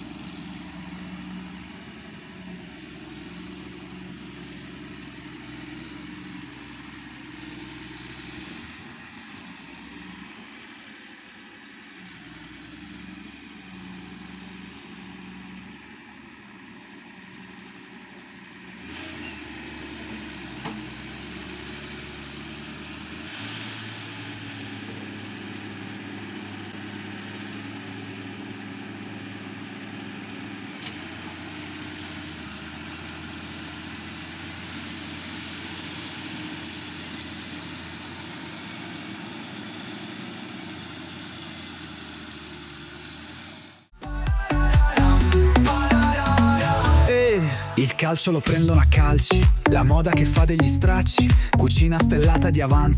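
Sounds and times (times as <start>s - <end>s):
harvester engine drone: 0.0s - 52.9s.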